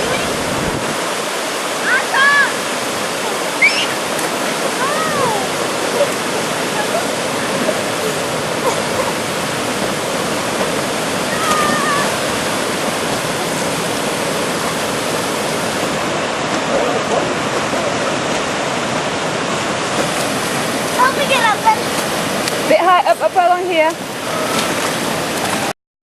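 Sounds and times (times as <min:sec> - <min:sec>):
waterfall rushing: 0:00.0 - 0:25.7.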